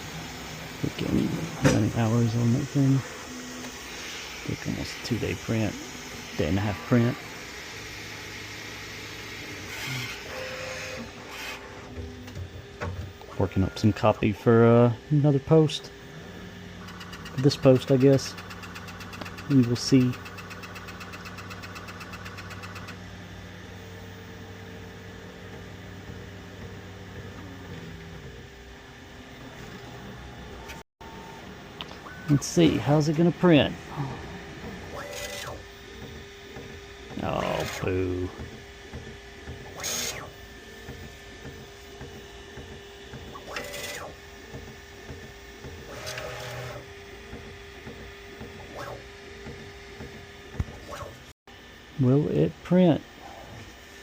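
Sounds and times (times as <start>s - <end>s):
stepper motor whirs: 0.0s - 51.8s
printer machine hum: 0.0s - 54.0s.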